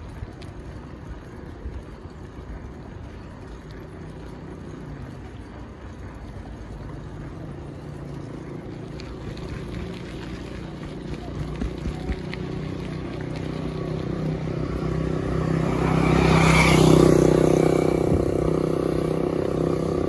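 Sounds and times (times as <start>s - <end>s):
engine hum: 0.0s - 20.0s
wind and road rumble: 0.0s - 20.0s.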